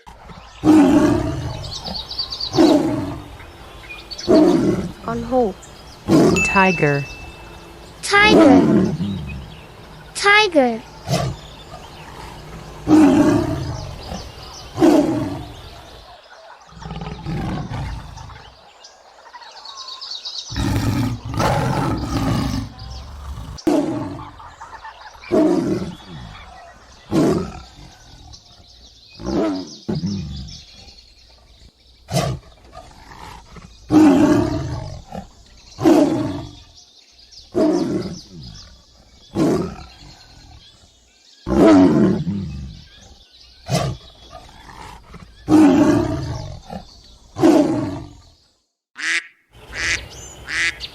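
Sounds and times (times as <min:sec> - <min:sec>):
tiger roaring and growling: 0:00.0 - 0:18.6, 0:20.5 - 0:36.8, 0:37.4 - 0:48.4.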